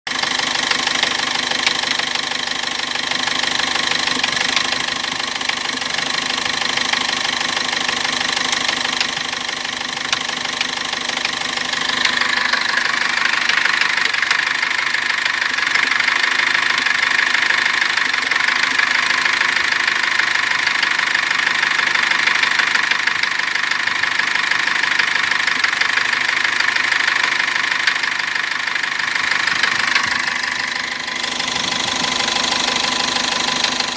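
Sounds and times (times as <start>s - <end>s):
diesel engine knocking: 0.1s - 33.9s.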